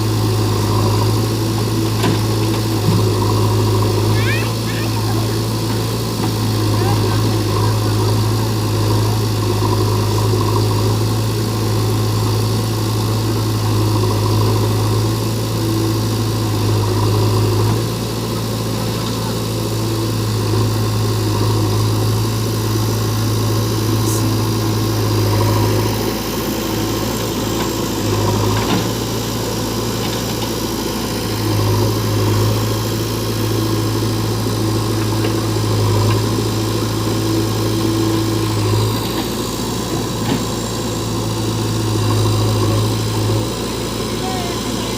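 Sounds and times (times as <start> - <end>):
diesel engines droning: 0.0 - 44.9.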